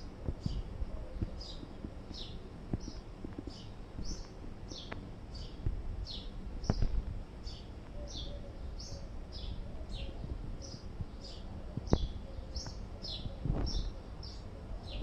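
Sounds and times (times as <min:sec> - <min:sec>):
bird chirping: 0:00.3 - 0:15.0.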